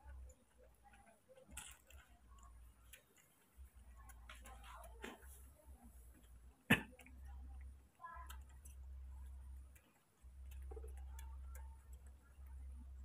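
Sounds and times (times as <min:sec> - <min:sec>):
faint clicking at bottle teat: 0:00.0 - 0:13.0.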